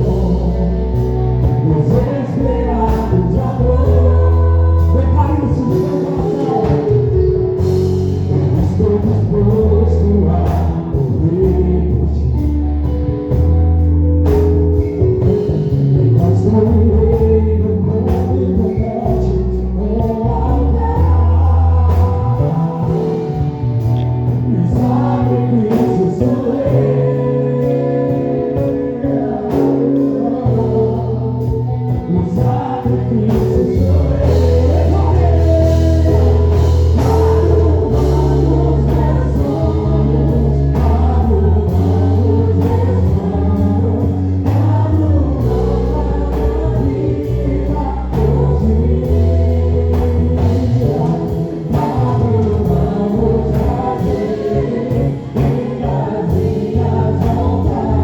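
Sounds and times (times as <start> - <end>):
group of voices singing: 0.0 - 13.6, 14.3 - 58.0
band with bass and beat: 0.0 - 58.0.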